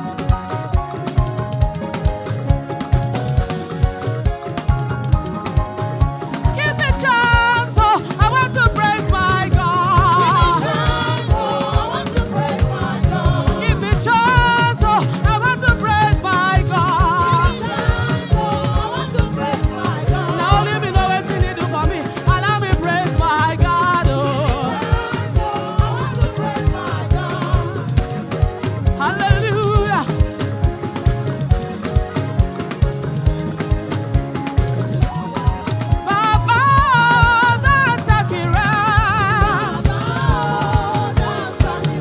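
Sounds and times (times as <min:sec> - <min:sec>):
bass: 0:00.0 - 0:42.0
choir singing gospel: 0:00.0 - 0:42.0
drum beat: 0:00.0 - 0:42.0.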